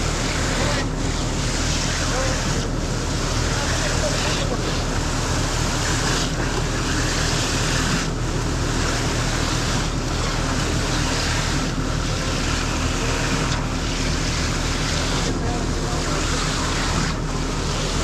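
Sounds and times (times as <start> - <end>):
concrete pump engine running: 0.0 - 18.0.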